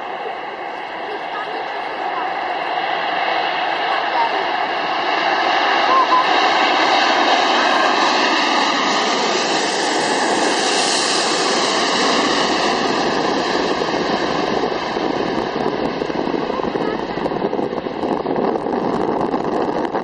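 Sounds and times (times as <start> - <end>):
jet airliner engine roar: 0.0 - 20.0.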